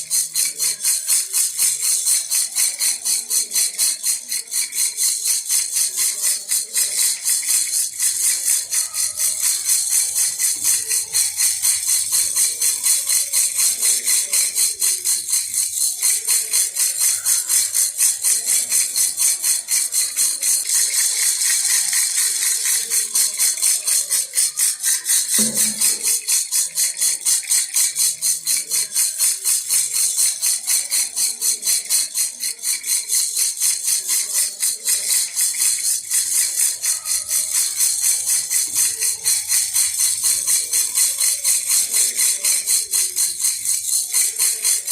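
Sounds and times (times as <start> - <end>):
baby rattle shaken: 0.0 - 44.9.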